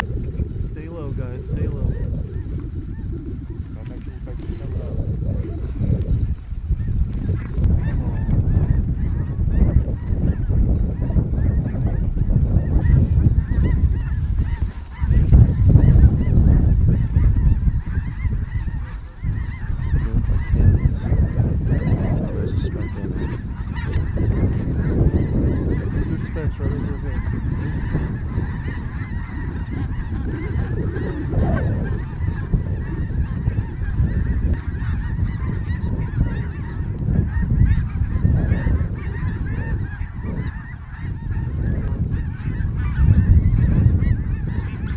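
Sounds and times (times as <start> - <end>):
geese honking: 0.0 - 44.9
low rumbling noise: 0.0 - 44.9.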